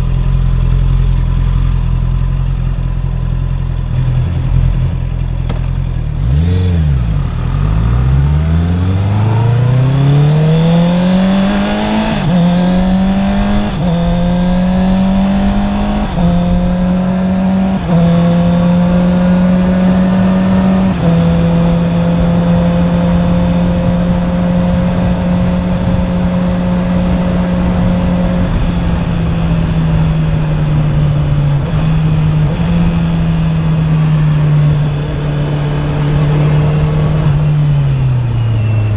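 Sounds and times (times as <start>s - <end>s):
motorcycle engine revving and shifting: 0.0s - 38.9s.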